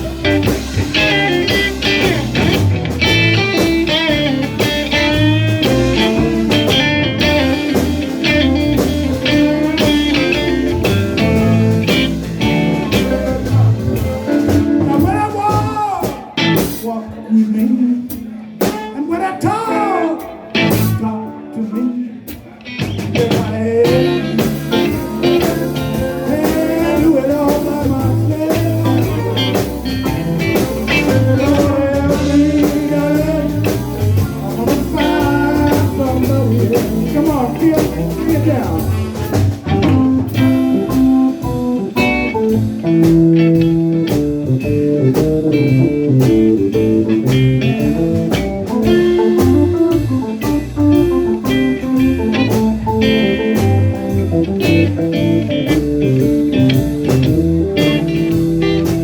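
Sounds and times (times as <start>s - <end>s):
guitar with bent notes: 0.0s - 17.3s, 18.1s - 59.0s
live blues band: 0.0s - 59.0s.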